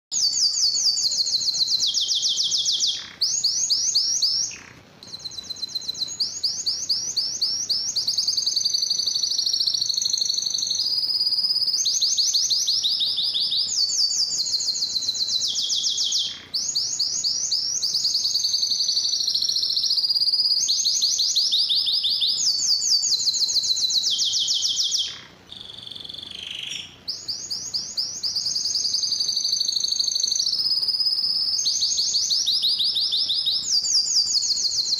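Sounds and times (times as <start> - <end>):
canary singing rapid trills: 0.1 - 34.9.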